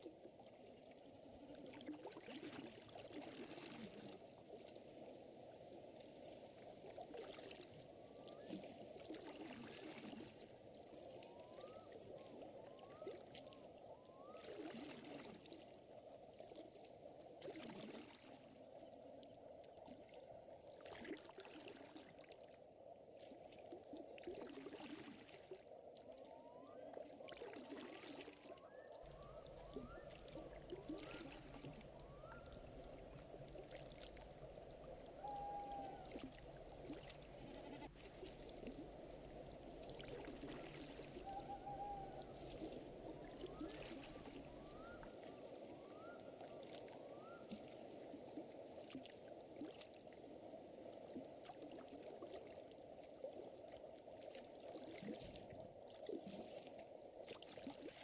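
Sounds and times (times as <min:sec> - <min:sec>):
gentle lapping water: 0:00.0 - 0:58.0.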